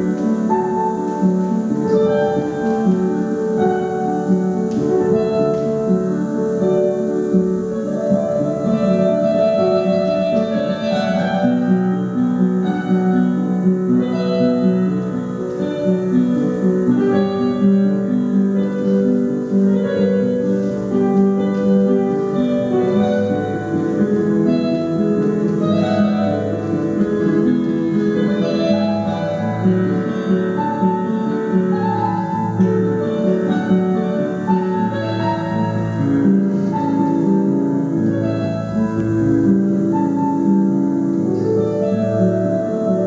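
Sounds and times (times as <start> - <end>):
slow piano music: 0.0 - 43.0.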